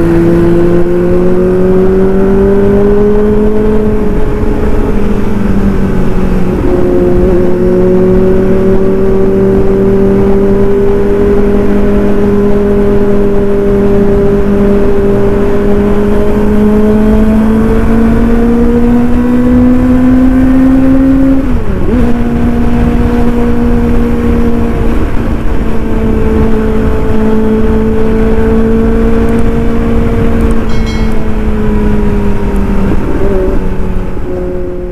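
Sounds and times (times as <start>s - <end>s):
motorcycle engine at high revs: 0.0s - 34.9s.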